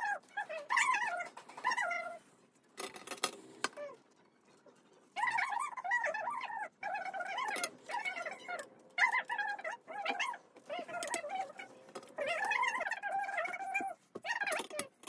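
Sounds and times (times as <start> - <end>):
animal whining: 0.0 - 2.3, 3.3 - 15.0.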